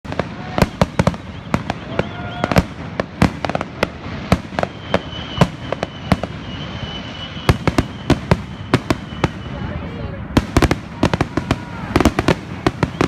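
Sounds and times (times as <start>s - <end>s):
fireworks banging: 0.0s - 13.0s
fireworks whistling: 0.1s - 13.0s
thin steady high whistle: 0.4s - 10.2s, 11.6s - 13.0s.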